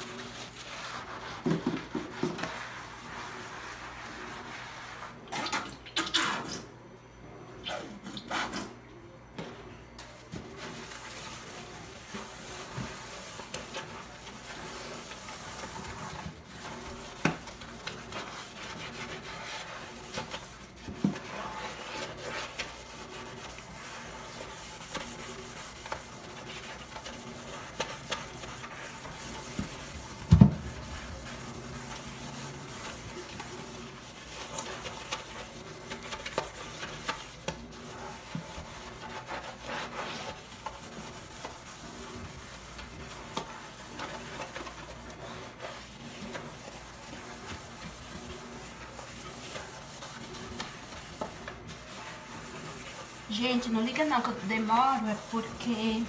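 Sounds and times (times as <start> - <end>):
sponge scrubbing metal sink: 0.0 - 6.7, 10.1 - 56.0.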